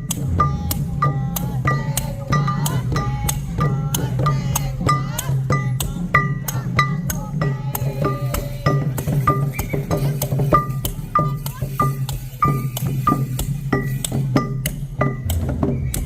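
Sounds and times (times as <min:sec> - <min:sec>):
clicking percussion beat: 0:00.0 - 0:16.0
steady low drum: 0:00.0 - 0:16.0
wavering melody: 0:00.0 - 0:16.0.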